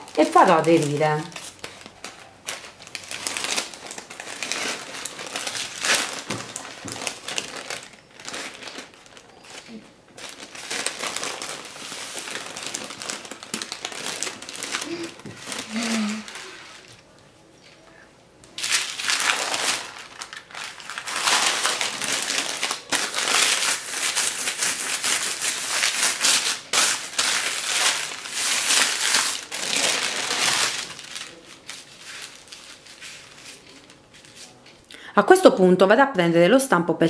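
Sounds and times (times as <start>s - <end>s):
parchment paper crinkling: 0.0s - 17.8s, 18.4s - 34.8s.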